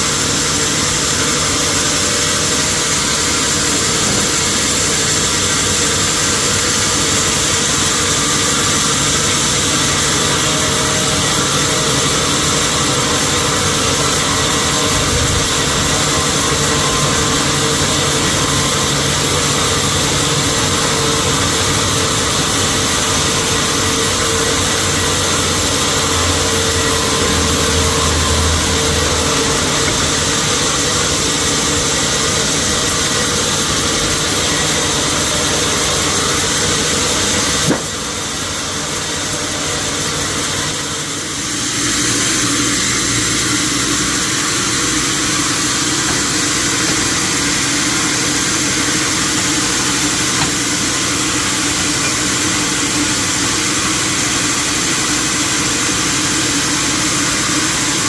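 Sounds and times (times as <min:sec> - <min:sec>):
sawmill machinery hum: 0:00.0 - 0:58.0.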